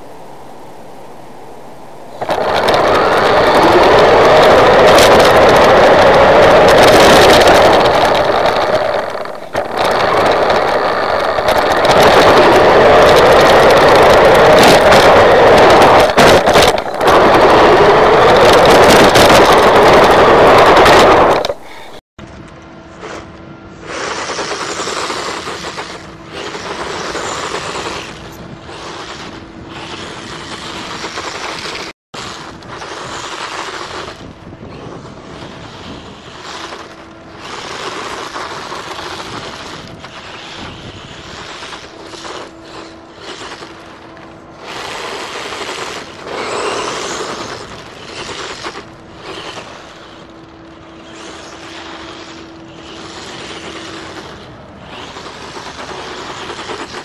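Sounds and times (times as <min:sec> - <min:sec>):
electric motor whine: 0:02.1 - 0:57.0.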